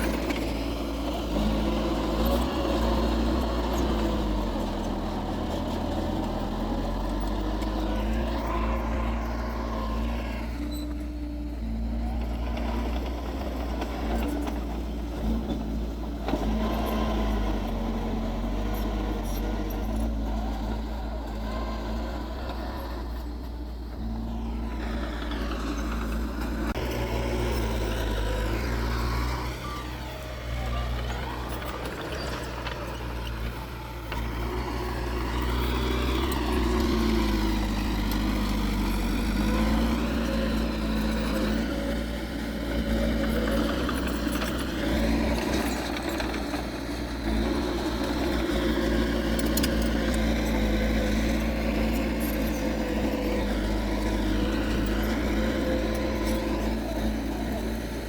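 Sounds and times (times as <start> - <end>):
heavy diesel engines working: 0.0 - 58.0.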